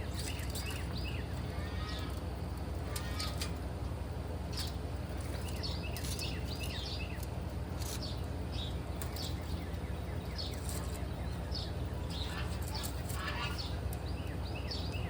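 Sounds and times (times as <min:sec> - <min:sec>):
birds chirping: 0:00.0 - 0:15.0
low mechanical hum: 0:00.0 - 0:15.0.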